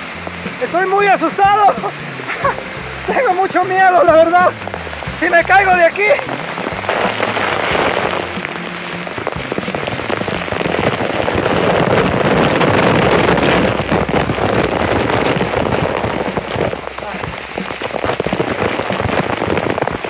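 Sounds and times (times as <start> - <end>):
spray spattering on camera: 0.0 - 20.0
waterfall rushing: 0.0 - 20.0.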